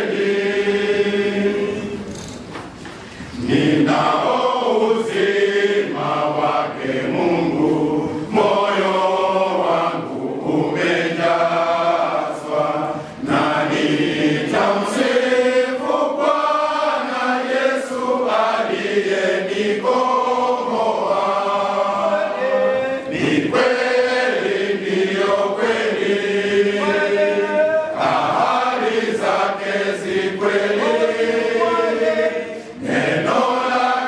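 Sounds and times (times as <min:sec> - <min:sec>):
men's choir singing a hymn: 0:00.0 - 0:34.0.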